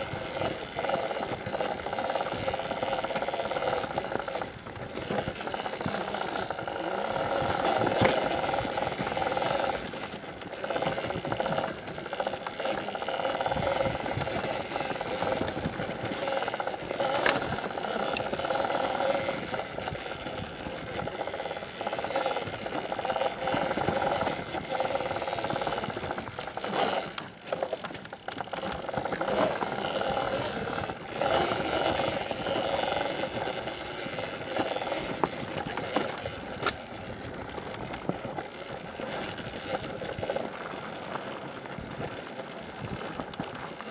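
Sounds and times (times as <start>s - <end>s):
electric motor and drivetrain whine: 0.0s - 43.9s.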